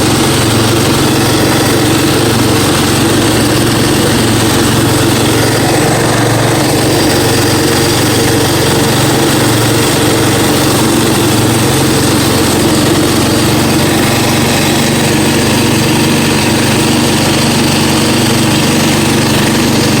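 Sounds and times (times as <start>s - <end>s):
lawn tractor engine running: 0.0s - 20.0s.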